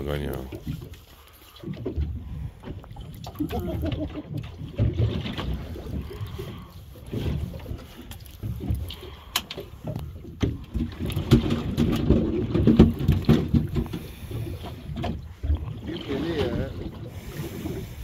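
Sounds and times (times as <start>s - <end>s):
water slapping metal boat: 0.0s - 18.0s.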